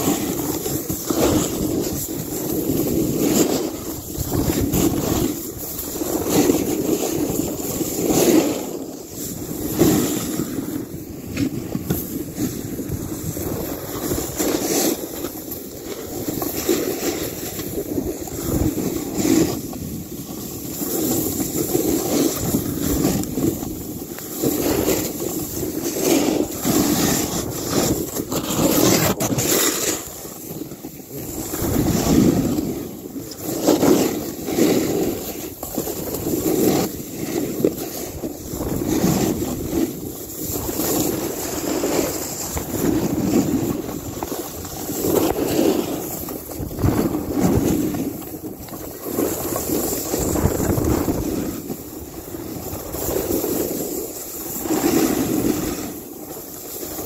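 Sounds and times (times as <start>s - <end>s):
snowboard scraping through snow: 0.0s - 57.0s
wind rumbling on microphone: 0.0s - 57.0s.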